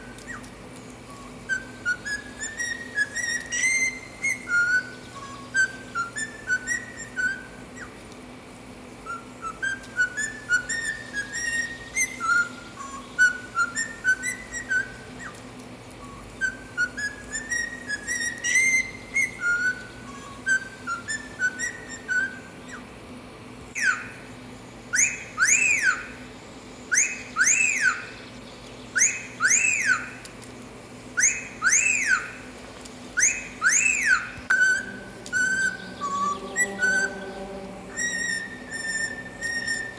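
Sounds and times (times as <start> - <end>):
cockatiel whistling a tune: 0.1 - 0.5, 1.1 - 8.0, 9.0 - 15.4, 16.0 - 22.8, 23.7 - 24.2, 24.9 - 26.2, 26.9 - 28.2, 28.9 - 30.3, 31.2 - 32.4, 33.2 - 37.2, 37.9 - 39.9
cockatiel wolf whistle: 1.1 - 8.0, 9.0 - 15.4, 16.0 - 22.8, 23.8 - 24.2, 24.9 - 26.2, 26.9 - 28.2, 28.9 - 30.3, 31.2 - 32.5, 33.2 - 39.9.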